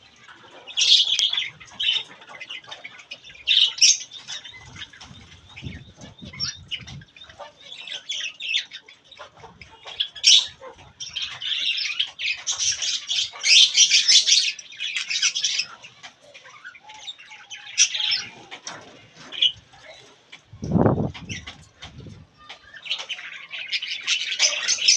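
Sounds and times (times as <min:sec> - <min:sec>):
budgie chicks chirping: 0:00.0 - 0:24.9.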